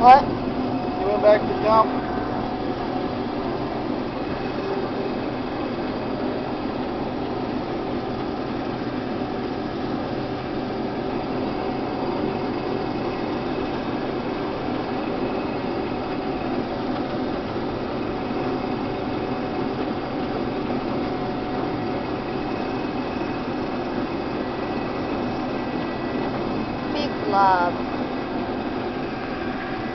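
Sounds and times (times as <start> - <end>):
combine harvester droning: 0.0 - 29.9.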